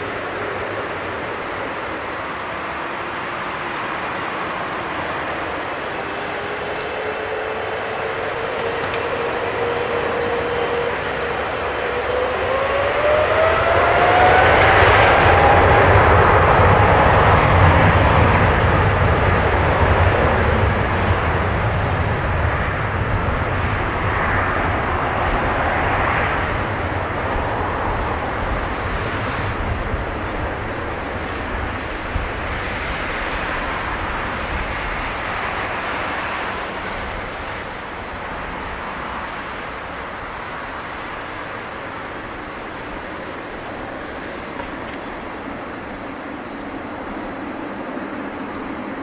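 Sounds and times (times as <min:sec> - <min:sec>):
jet engines rumbling and whining: 0:00.0 - 0:49.0.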